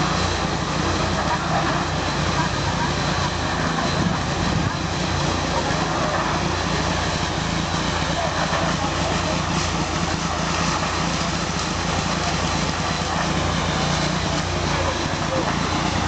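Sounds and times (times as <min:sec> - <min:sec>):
engine humming: 0:00.0 - 0:16.0
wide hiss: 0:00.0 - 0:16.0.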